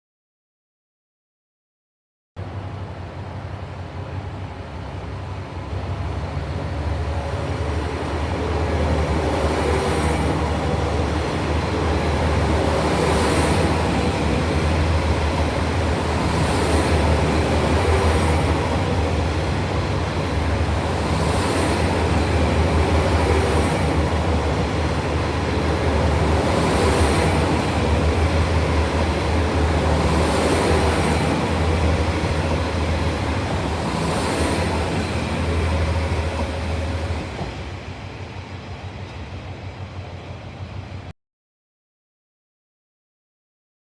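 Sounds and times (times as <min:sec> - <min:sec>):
diesel railcar engine hum: 0:02.4 - 0:41.1.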